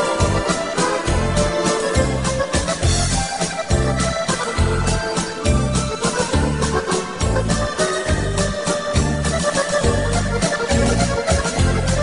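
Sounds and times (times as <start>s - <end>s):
keyboard-led background music: 0.0s - 12.0s.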